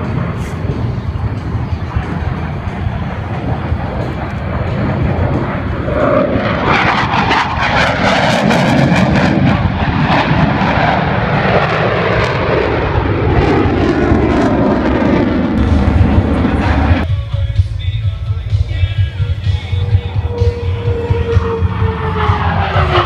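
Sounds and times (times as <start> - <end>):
jet engines roaring past: 0.0 - 23.0.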